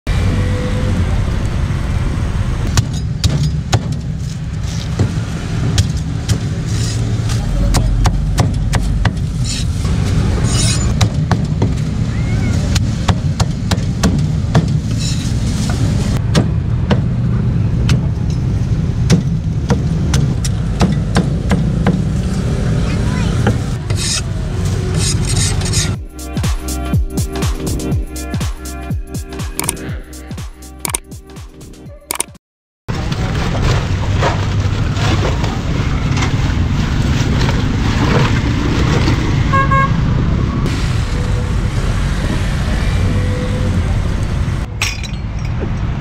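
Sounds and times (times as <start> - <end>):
low rumble of street traffic: 0.1 - 31.2, 32.9 - 46.0.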